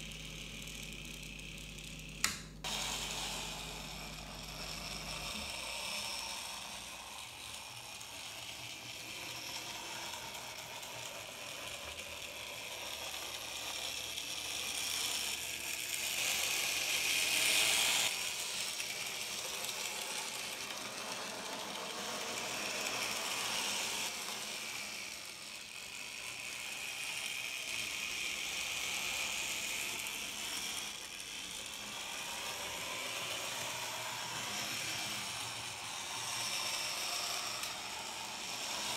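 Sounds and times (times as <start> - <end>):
model train motors whirring: 0.0 - 38.9.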